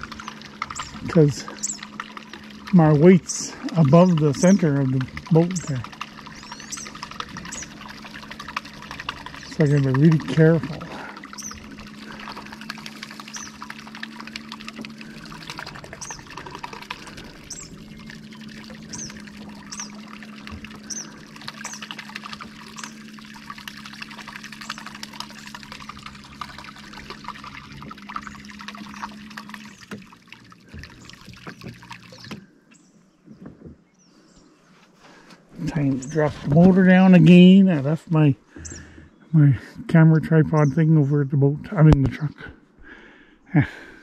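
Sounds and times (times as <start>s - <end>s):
propeller churning and splashing water: 0.0s - 44.0s
small boat motor humming: 0.0s - 44.0s.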